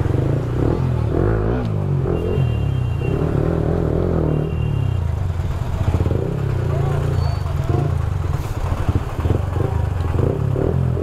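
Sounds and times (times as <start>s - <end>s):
motorcycle engine low rumble: 0.0s - 11.0s
vehicle engines in traffic: 0.0s - 11.0s.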